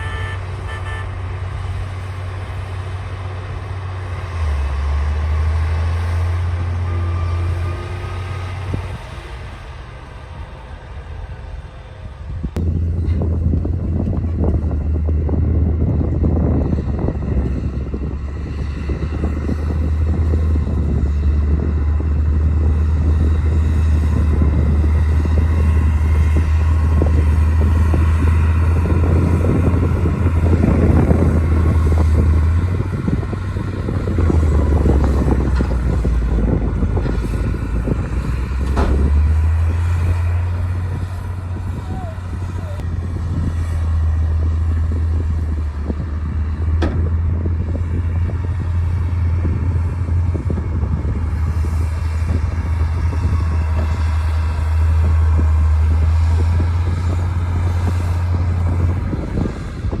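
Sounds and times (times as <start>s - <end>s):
bulldozer diesel engine droning: 0.0s - 60.0s.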